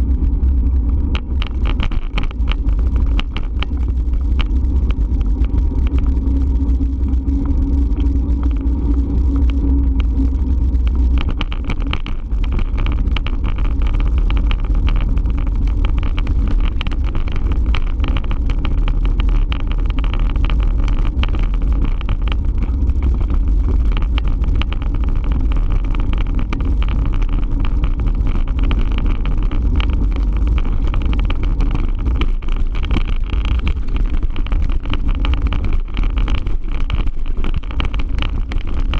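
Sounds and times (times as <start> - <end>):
bike road noise: 0.0 - 38.9
low hum: 0.0 - 38.9
rattly choppy noise: 0.0 - 38.9
wind rumble on microphone: 0.0 - 38.9.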